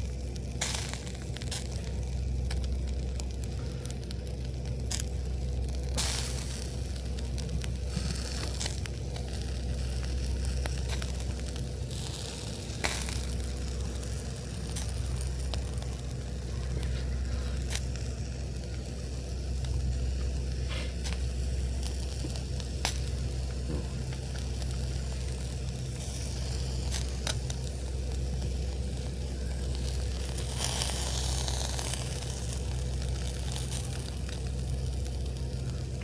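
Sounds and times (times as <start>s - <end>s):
campfire crackling and popping: 0.0s - 36.0s
fish sizzling on a grill: 0.0s - 36.0s
steady low rumble: 0.0s - 36.0s.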